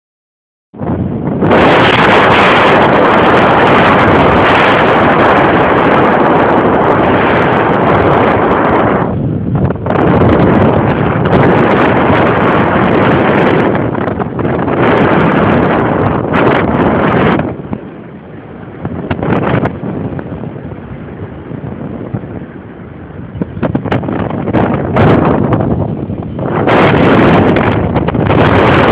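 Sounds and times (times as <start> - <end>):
wind buffeting microphone: 0.8 - 28.9.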